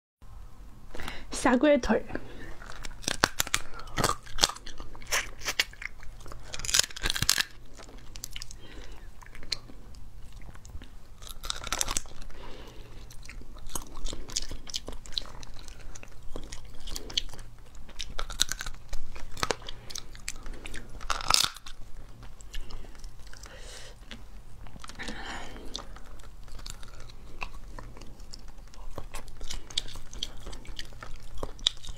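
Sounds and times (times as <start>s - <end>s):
crunching and chewing: 2.2s - 31.9s
crab shells cracking: 2.6s - 31.9s.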